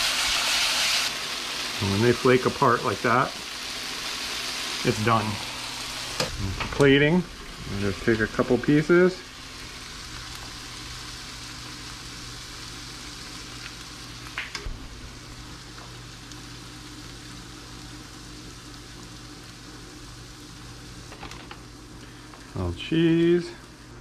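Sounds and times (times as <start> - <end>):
fish sizzling in a pan: 0.0 - 23.9.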